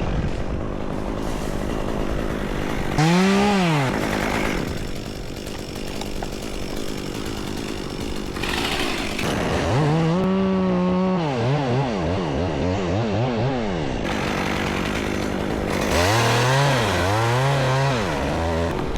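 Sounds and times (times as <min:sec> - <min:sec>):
chainsaw revving: 0:00.3 - 0:18.9.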